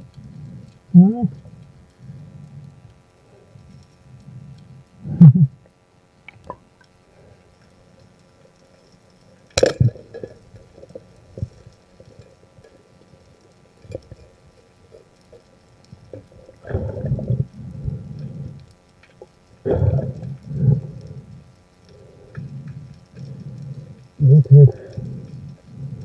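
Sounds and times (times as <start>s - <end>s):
muffled underwater noise: 0.0s - 5.6s, 9.3s - 26.0s.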